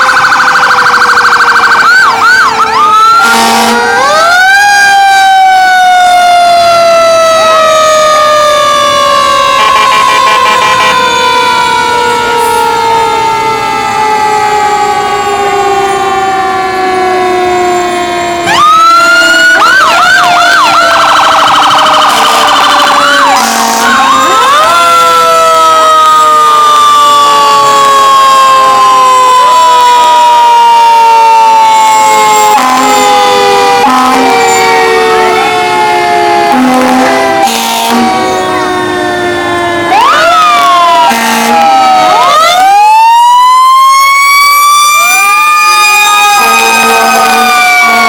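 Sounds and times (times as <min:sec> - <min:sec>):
fire truck sirens wailing: 0:00.0 - 0:48.0
siren whooping and warbling: 0:00.0 - 0:48.0.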